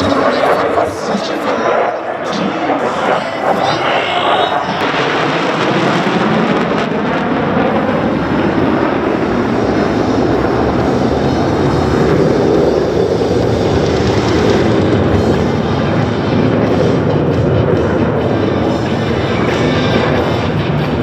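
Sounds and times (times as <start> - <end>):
jet roar: 0.0 - 21.0.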